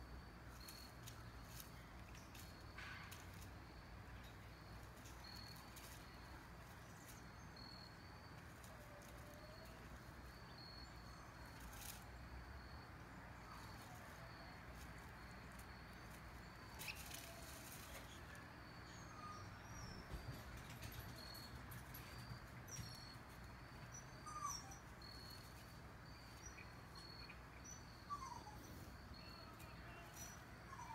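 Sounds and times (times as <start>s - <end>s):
faint high chirps: 0.5s - 30.9s.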